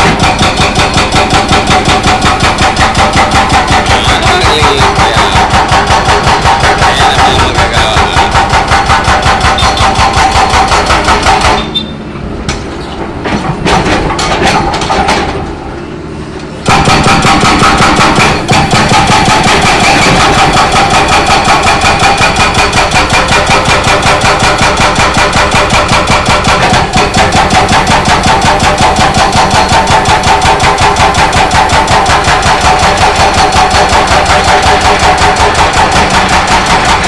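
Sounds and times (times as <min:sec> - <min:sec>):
stray knocks: 0:00.0 - 0:11.7, 0:16.6 - 0:37.0
hydraulic breaker hammering concrete: 0:00.0 - 0:11.9, 0:13.1 - 0:15.8, 0:16.6 - 0:37.0
machine engine running: 0:00.0 - 0:12.4, 0:13.1 - 0:37.0.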